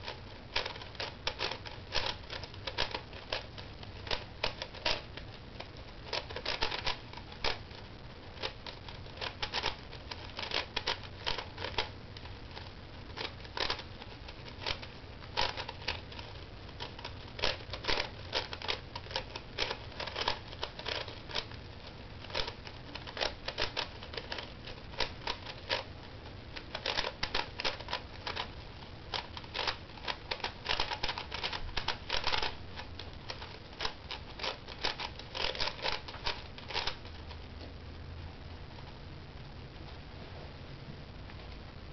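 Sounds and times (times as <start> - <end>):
plastic puzzle cube clicking: 0.0 - 5.3, 6.0 - 7.8, 8.4 - 25.9, 26.5 - 37.3.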